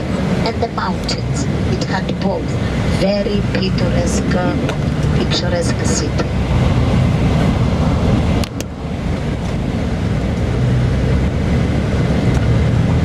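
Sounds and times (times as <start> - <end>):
engine drone and road rumble: 0.0 - 13.0.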